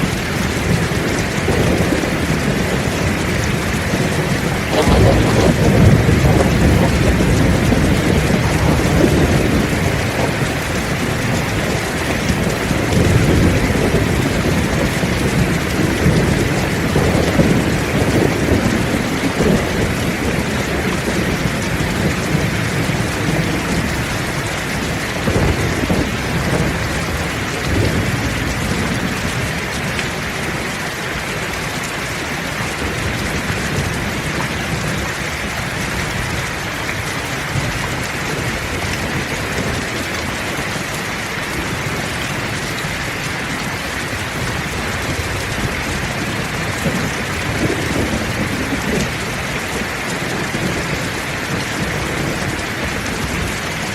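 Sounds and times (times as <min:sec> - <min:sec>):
low rolling thunder: 0:00.0 - 0:31.6, 0:32.4 - 0:53.9
heavy rain falling: 0:00.0 - 0:53.9.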